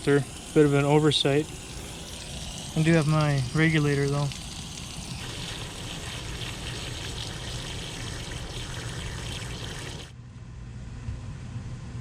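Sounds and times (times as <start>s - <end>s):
water running from outdoor tap: 0.0s - 10.1s.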